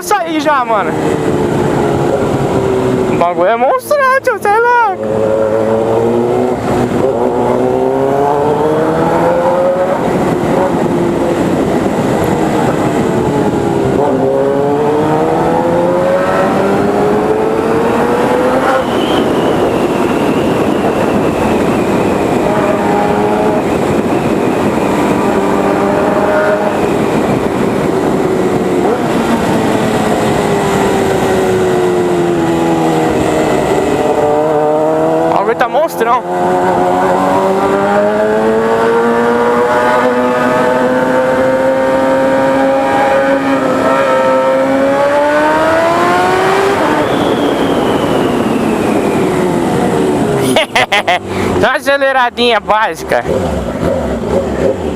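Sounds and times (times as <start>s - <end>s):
motorcycle engine accelerating hard: 0.0s - 3.6s, 5.0s - 51.8s, 53.1s - 54.9s.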